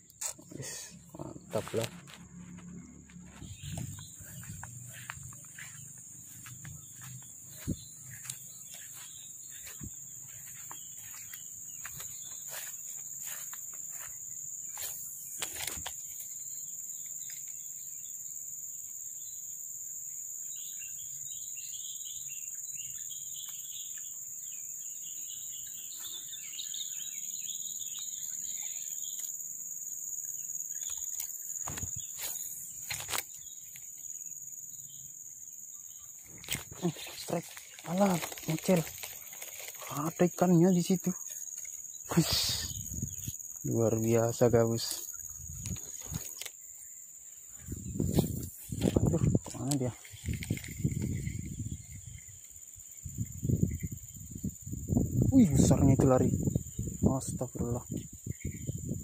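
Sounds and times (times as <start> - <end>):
birds chirping: 0.0 - 59.0
high-pitched insect drone: 0.0 - 59.0.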